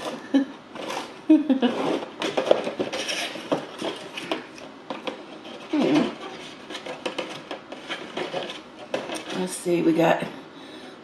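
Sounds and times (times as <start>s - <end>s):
paper packaging rustling: 0.0s - 9.6s.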